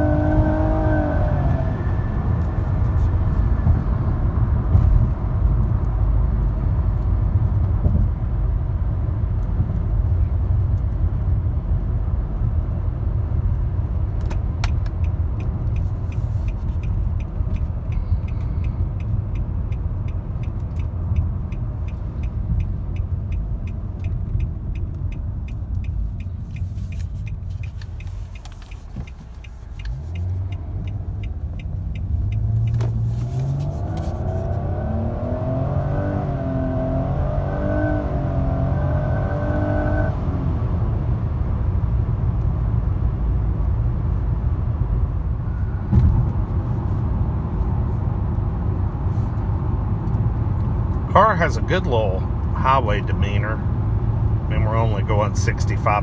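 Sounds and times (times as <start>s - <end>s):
car engine accelerating: 0.0s - 7.8s, 13.0s - 56.0s
road and tyre rumble: 0.0s - 56.0s.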